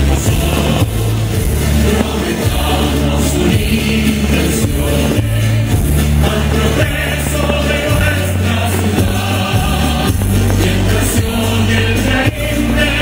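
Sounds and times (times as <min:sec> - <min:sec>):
held bass line: 0:00.0 - 0:13.0
music with singing: 0:00.0 - 0:13.0.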